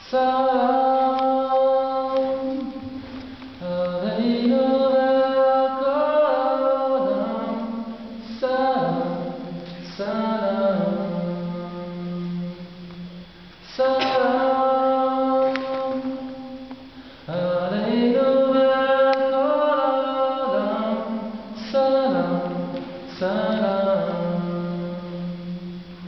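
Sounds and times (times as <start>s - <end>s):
man singing with echo: 0.0s - 26.0s.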